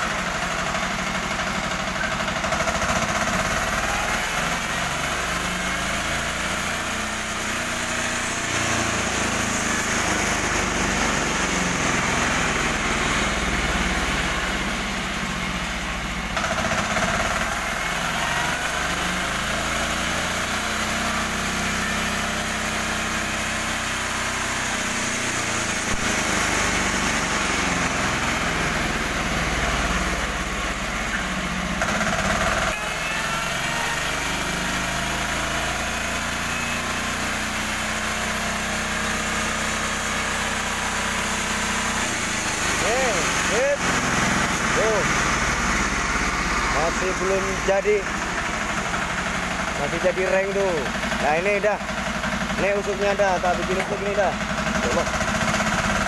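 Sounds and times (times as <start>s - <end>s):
small engine running under load: 0.0s - 56.0s
band saw cutting log: 2.0s - 56.0s.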